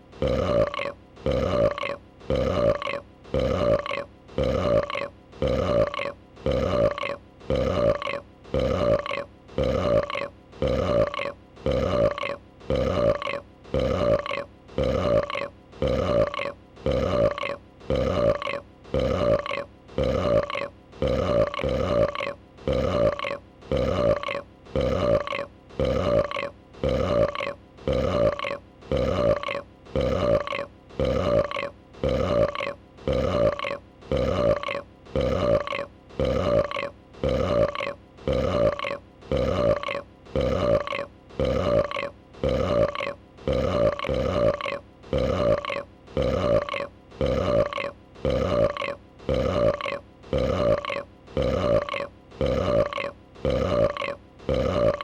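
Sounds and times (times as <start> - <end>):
creature burp: 0.1 - 55.0.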